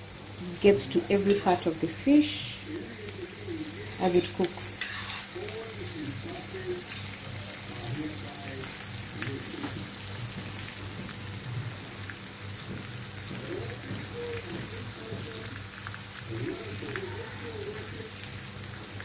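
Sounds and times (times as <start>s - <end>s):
fish sizzling in a hot pan: 0.0s - 19.0s.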